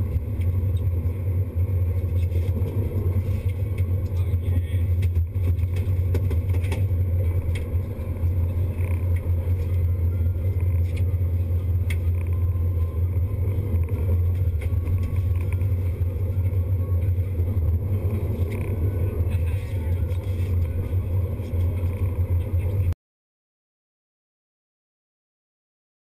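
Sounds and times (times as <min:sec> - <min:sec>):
boat engines droning: 0:00.0 - 0:22.9.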